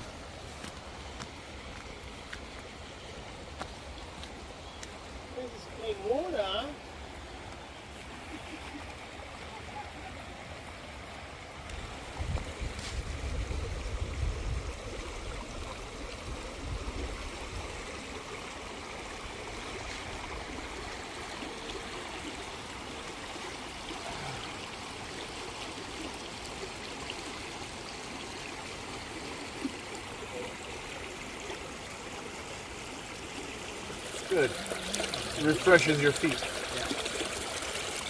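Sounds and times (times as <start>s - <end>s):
stream rushing: 0.0s - 38.0s.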